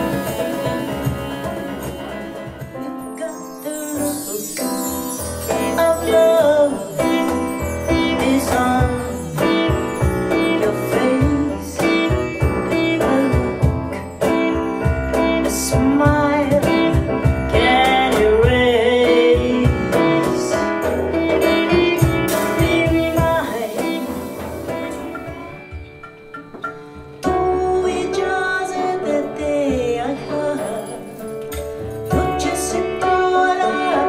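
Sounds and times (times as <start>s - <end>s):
live band playing: 0.0s - 34.0s
woman singing ornamented melody: 2.8s - 20.3s, 21.3s - 25.8s, 27.4s - 31.5s, 32.1s - 34.0s.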